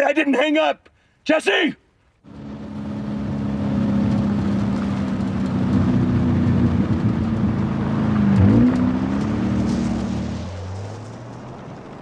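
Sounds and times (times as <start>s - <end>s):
car engine running hard: 2.3s - 12.0s.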